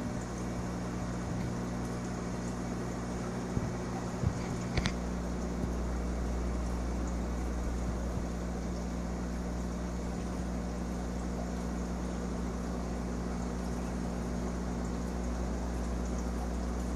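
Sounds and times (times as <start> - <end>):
aquarium equipment humming: 0.0 - 16.9.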